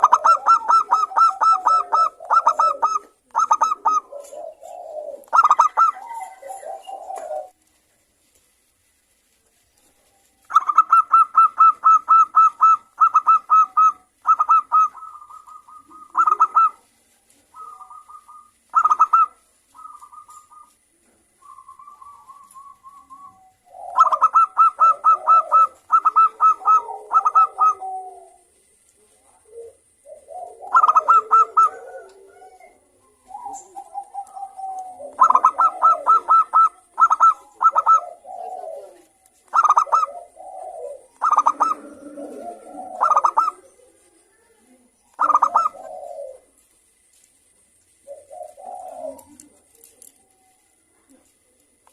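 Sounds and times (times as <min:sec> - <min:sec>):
doves cooing: 0:00.0 - 0:07.8, 0:09.8 - 0:51.9.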